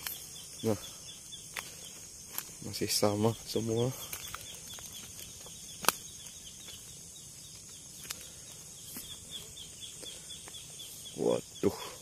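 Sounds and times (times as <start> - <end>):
insect buzz: 0.0 - 12.0.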